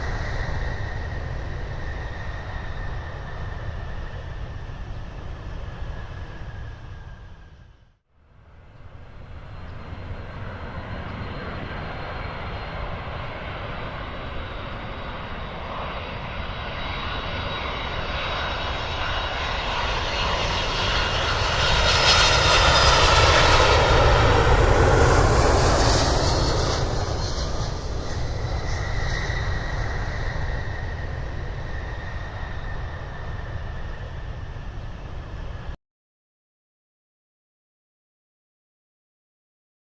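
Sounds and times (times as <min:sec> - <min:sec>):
jet engines during landing: 0:00.0 - 0:35.8.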